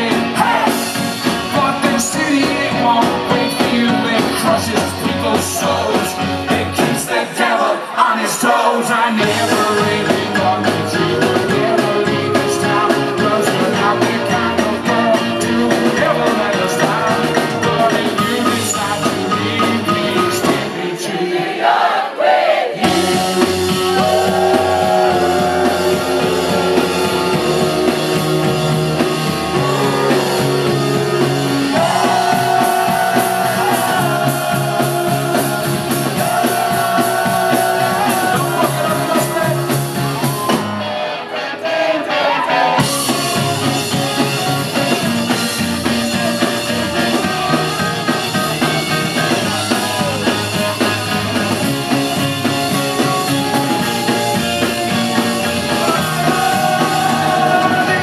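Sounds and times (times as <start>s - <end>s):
rock band playing instrumental: 0.0s - 7.5s, 9.2s - 21.5s, 22.8s - 58.0s.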